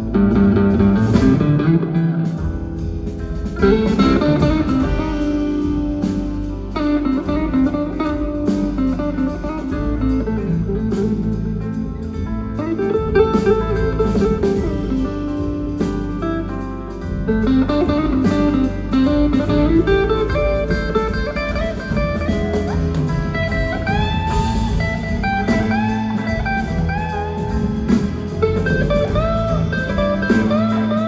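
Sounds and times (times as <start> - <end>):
band with steady beat: 0.0 - 31.0
slow blues electric guitar: 0.0 - 31.0.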